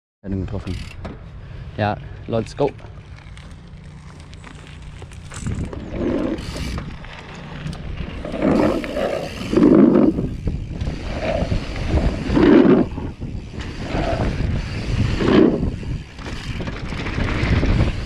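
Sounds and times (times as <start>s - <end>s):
wind rumble on microphone: 3.2s - 18.0s.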